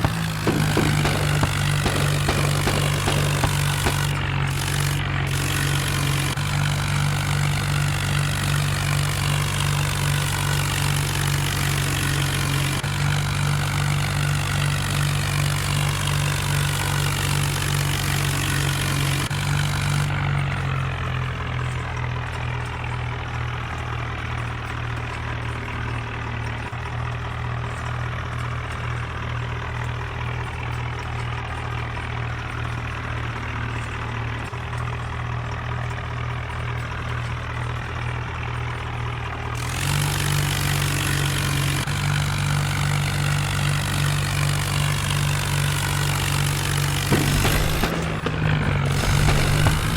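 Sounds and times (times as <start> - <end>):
diesel tractor engine idling: 0.0 - 26.2, 27.0 - 49.9.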